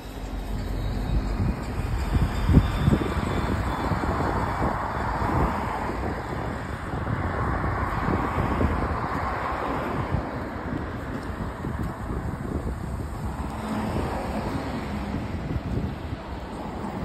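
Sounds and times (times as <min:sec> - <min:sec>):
bus pulling in and stopping: 0:00.0 - 0:17.0
wind buffeting microphone: 0:00.0 - 0:17.0.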